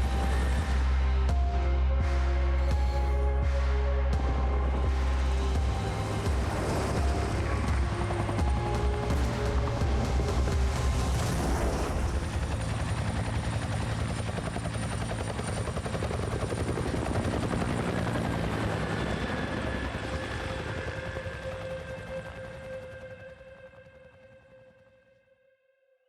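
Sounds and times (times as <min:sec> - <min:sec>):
helicopter rotor beating: 0:00.0 - 0:01.4, 0:02.6 - 0:23.8.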